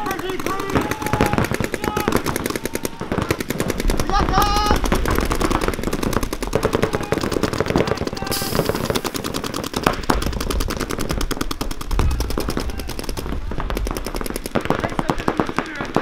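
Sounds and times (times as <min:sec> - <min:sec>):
paintball markers firing rapidly: 0:00.0 - 0:16.0.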